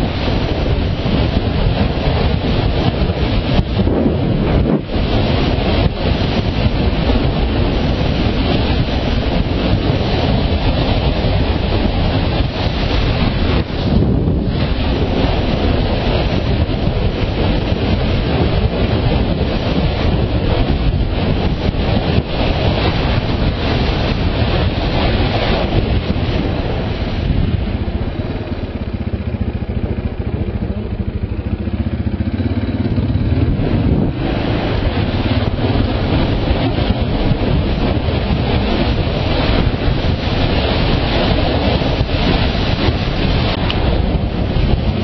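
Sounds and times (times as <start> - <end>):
motorcycle engine at speed: 0.0 - 45.0
wind buffeting on microphone: 0.0 - 45.0.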